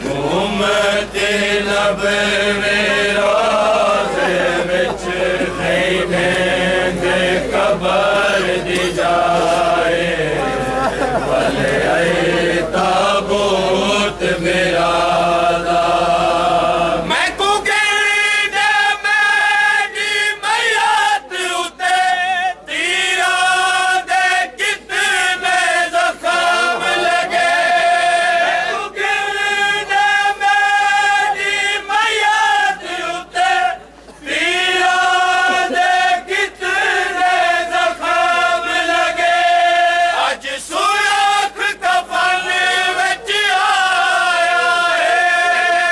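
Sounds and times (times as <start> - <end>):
men chanting in unison: 0.0 - 45.9.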